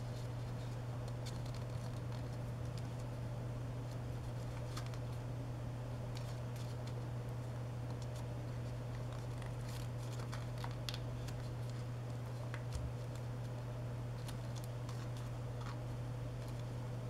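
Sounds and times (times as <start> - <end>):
paper crinkling while folded: 0.0 - 3.2, 3.8 - 5.3, 6.0 - 17.0
steady low hum: 0.0 - 17.0.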